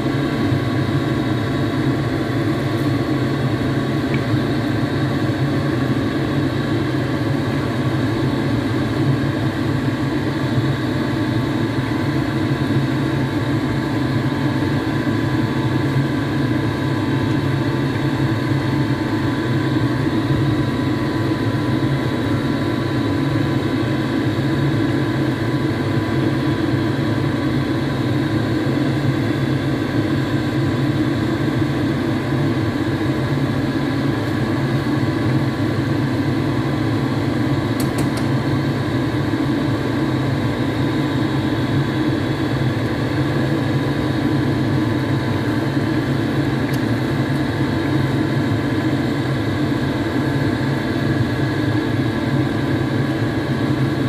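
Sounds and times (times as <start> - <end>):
kitchen equipment humming: 0.0 - 51.3.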